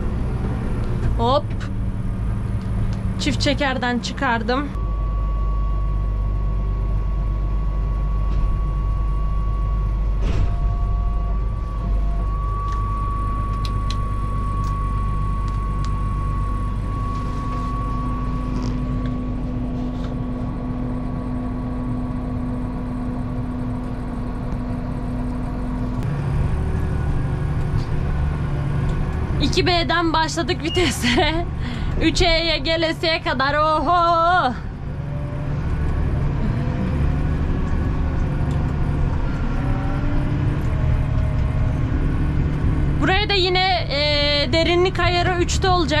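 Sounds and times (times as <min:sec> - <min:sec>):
tractor diesel engine running: 0:00.0 - 0:46.0
thin steady whine: 0:01.2 - 0:46.0.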